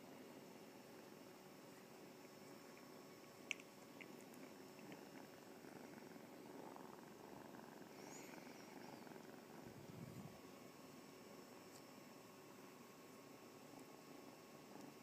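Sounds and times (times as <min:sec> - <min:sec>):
kitten purring: 0:00.4 - 0:15.0.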